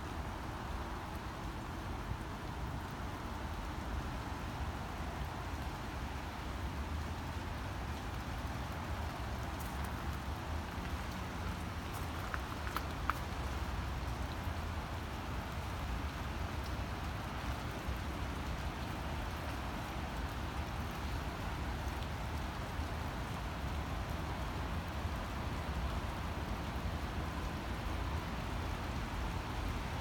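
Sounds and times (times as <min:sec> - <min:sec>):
steady rain falling: 0:00.0 - 0:30.0
faint raindrop ticks: 0:00.1 - 0:30.0.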